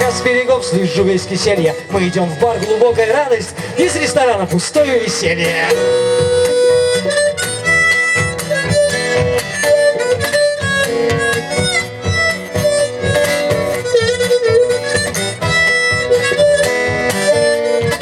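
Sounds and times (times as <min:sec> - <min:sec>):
harmonica solo: 0:00.0 - 0:18.0
strummed acoustic guitar: 0:00.0 - 0:18.0.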